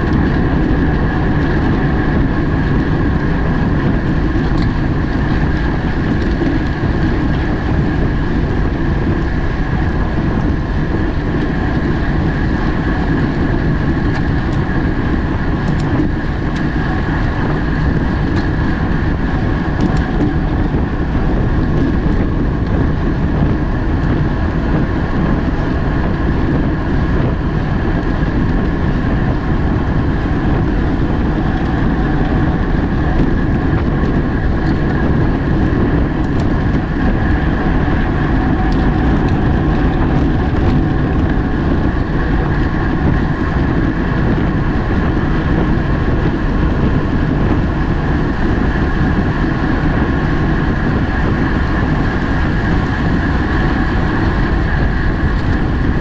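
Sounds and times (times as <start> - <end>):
bicycle tyre and drivetrain hum: 0.0 - 56.0
wind rushing over microphone: 0.0 - 56.0.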